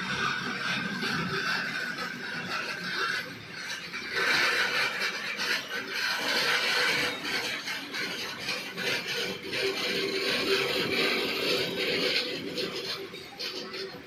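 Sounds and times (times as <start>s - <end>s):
faint wheel squeal: 0.0s - 14.0s
freight wagons rattling on rails: 0.0s - 14.0s.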